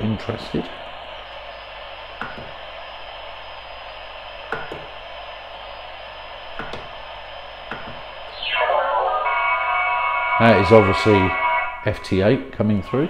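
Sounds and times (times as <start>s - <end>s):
radio receiver hiss: 0.1s - 12.8s.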